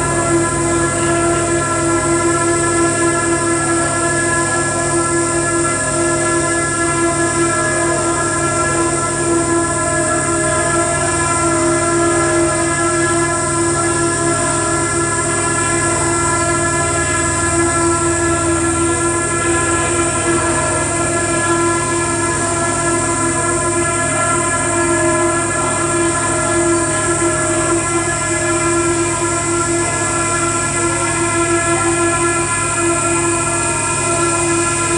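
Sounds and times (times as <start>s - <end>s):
electronic noise drone: 0.0s - 34.9s.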